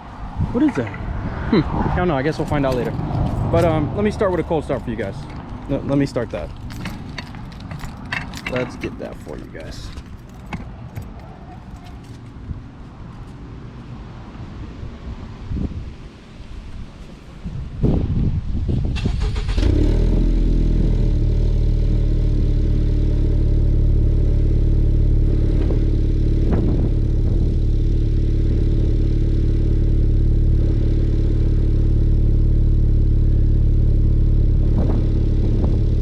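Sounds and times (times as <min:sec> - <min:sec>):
car engine cranking and idling: 0:00.6 - 0:14.0, 0:18.8 - 0:36.0.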